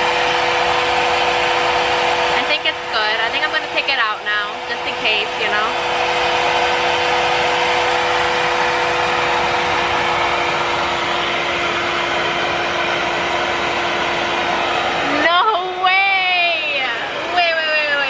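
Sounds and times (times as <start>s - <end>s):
hair dryer suction motor whooshing: 0.0s - 18.0s.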